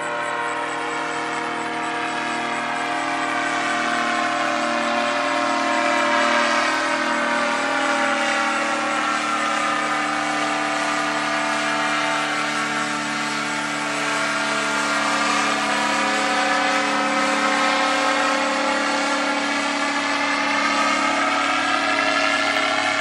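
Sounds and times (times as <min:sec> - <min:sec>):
engine and propeller droning: 0:00.0 - 0:23.0.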